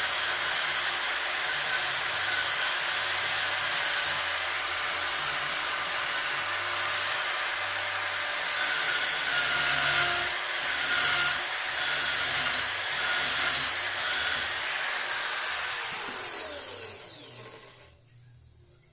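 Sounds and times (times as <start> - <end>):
power carving tool cutting wood: 0.0 - 18.0.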